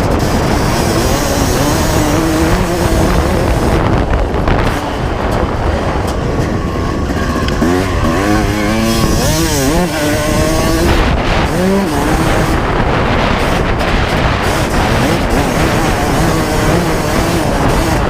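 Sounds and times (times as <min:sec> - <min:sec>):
constant rush of noise: 0:00.0 - 0:18.0
motocross engine revving: 0:00.0 - 0:18.0.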